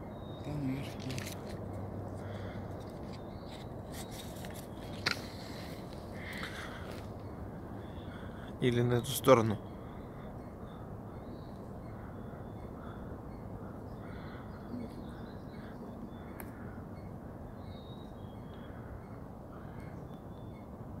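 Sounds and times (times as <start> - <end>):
faint bird calls: 0.0 - 20.8
outdoor background hiss: 0.0 - 21.0.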